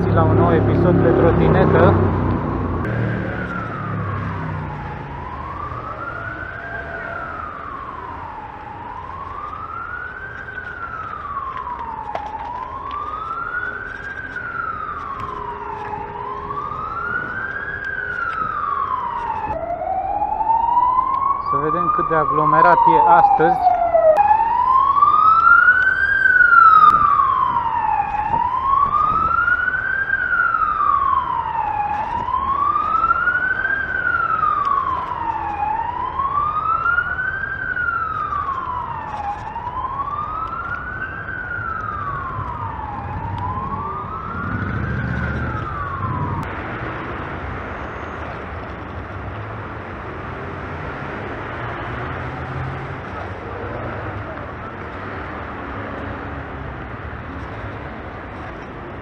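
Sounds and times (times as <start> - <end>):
emergency vehicle siren wailing: 0.0 - 59.0
street noise: 0.0 - 59.0.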